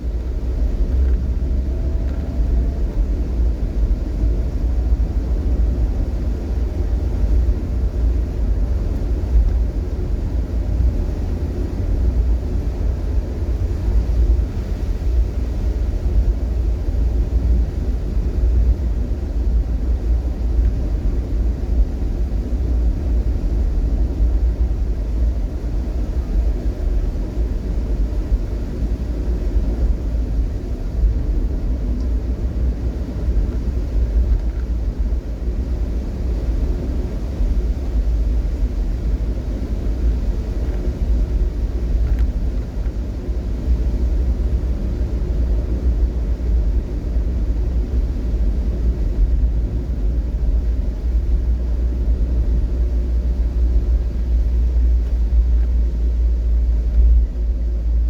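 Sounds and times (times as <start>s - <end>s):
vehicle road and engine rumble: 0.0s - 58.0s.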